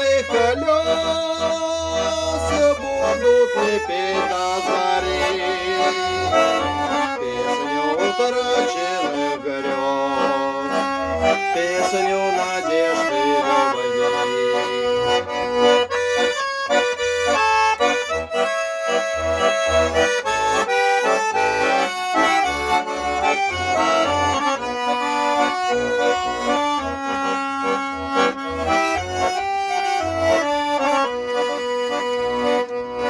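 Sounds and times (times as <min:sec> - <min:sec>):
accordion melody: 0:00.0 - 0:33.0.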